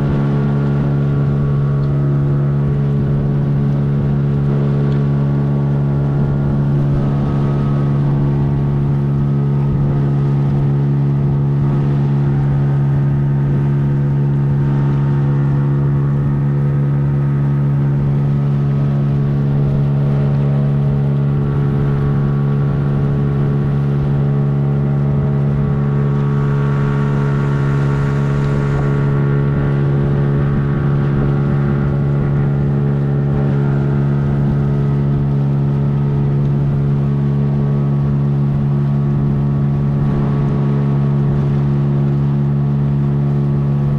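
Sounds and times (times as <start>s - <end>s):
boat motor droning: 0.0s - 43.9s.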